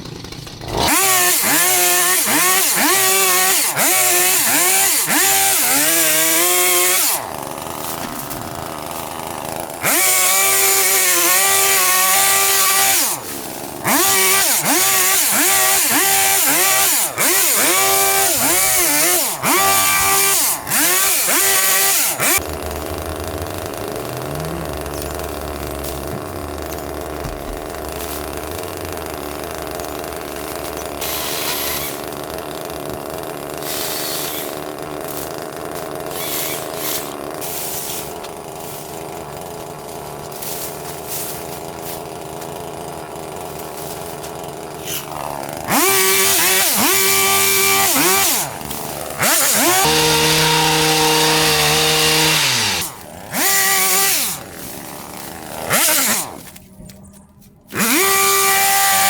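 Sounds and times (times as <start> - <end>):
hedge trimmer engine revving: 0.0 - 59.0.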